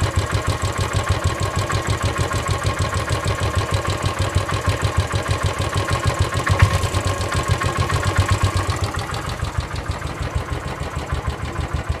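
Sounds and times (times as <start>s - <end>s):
motorcycle engine idling with knocking: 0.0s - 12.0s.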